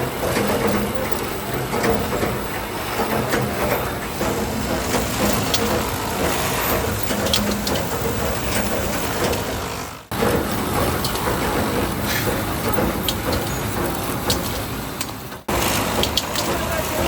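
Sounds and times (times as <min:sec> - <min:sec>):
mechanical running noise: 0:00.0 - 0:17.0.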